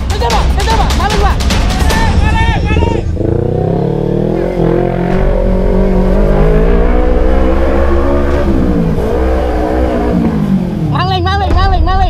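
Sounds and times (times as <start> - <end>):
motorcycle engine running: 1.0 - 10.9.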